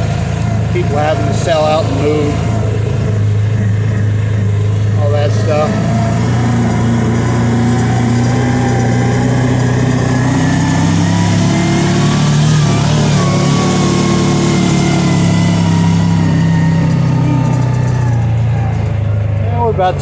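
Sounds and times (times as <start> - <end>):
engine running under way: 0.0 - 20.0.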